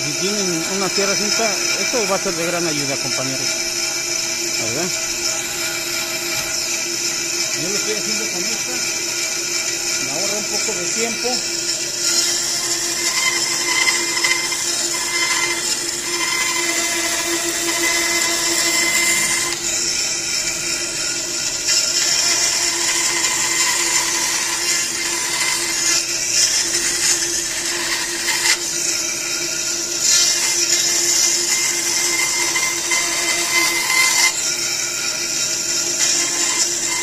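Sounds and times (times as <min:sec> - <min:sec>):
bandsaw cutting wood: 0:00.0 - 0:37.0.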